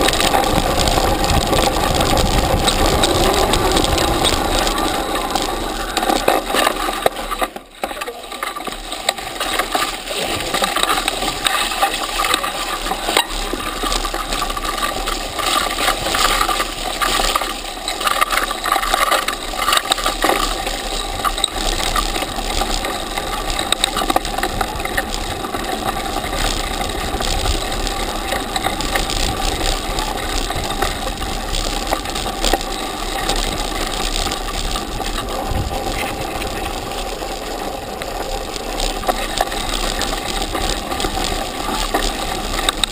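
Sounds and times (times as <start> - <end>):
bike chain and frame rattling: 0.0 - 42.9
tyre noise on dirt: 0.0 - 42.9.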